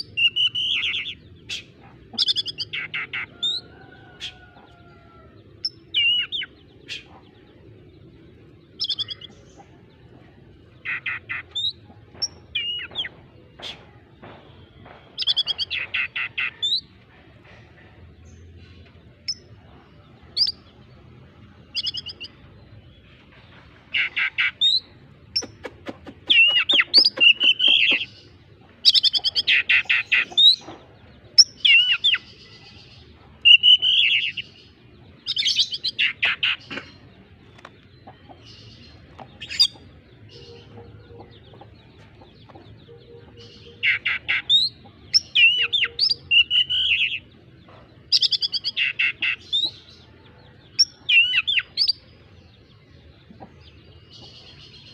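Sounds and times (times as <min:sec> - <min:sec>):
bird singing chattering notes: 0:00.0 - 0:03.6, 0:05.5 - 0:17.1, 0:18.2 - 0:54.9.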